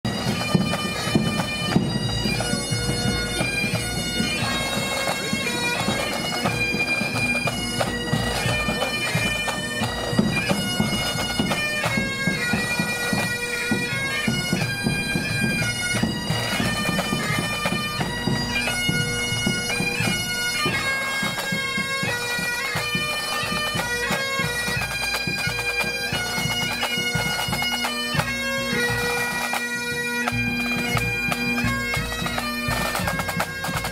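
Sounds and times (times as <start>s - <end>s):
bagpipes playing melody: 0.0s - 33.9s
drums beating: 0.1s - 29.6s.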